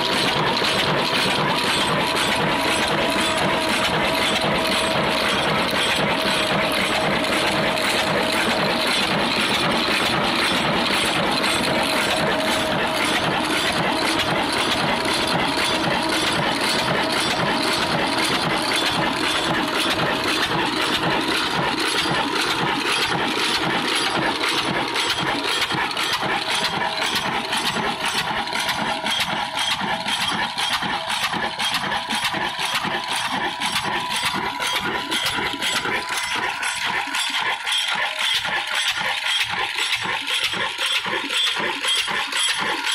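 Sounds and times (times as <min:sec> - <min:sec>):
slow diesel engine running: 0:00.0 - 0:42.9.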